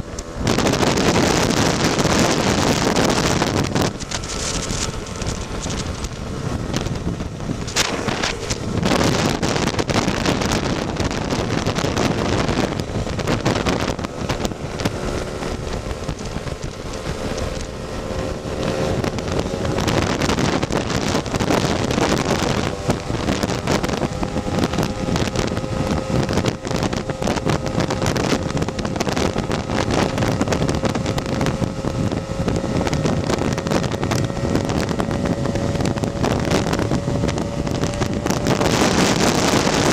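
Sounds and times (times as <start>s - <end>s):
scooter engine running: 0.0s - 39.9s
wind buffeting microphone: 0.0s - 39.9s.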